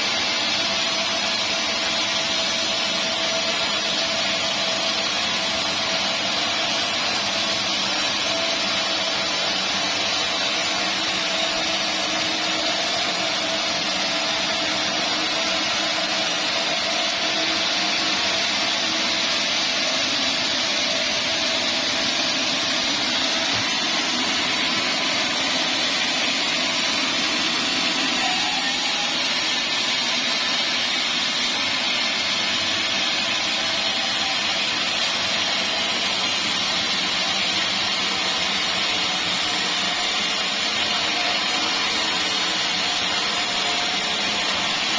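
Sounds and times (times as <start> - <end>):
band sawmill whining: 0.0 - 44.9.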